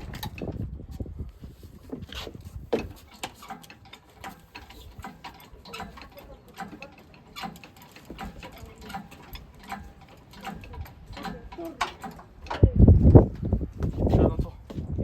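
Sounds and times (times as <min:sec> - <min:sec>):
hand tools clicking and knocking on metal: 0:01.8 - 0:14.8.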